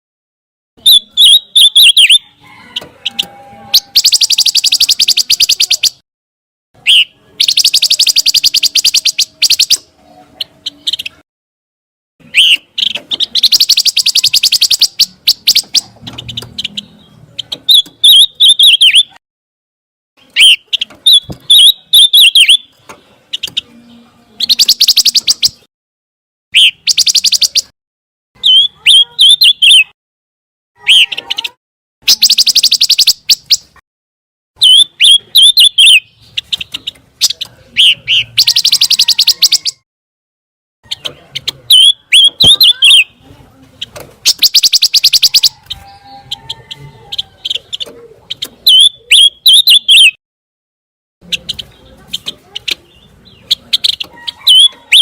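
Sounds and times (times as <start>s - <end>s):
songbird chirps and trills: 0.8s - 6.0s, 6.8s - 11.2s, 12.2s - 19.2s, 20.2s - 25.7s, 26.6s - 27.7s, 28.4s - 30.0s, 30.8s - 33.8s, 34.6s - 39.8s, 40.8s - 50.2s, 51.2s - 55.0s.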